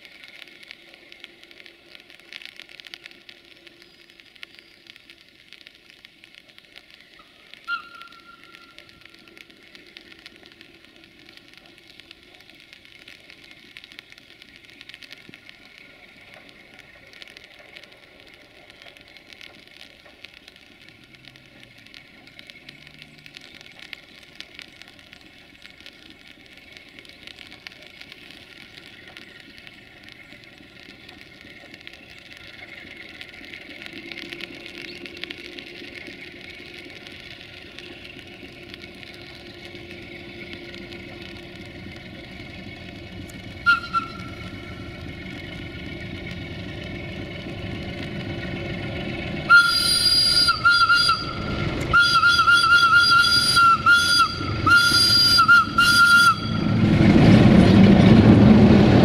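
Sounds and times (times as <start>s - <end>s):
steady crackling hiss: 0.0s - 59.0s
diesel locomotive engine approaching: 6.8s - 59.0s.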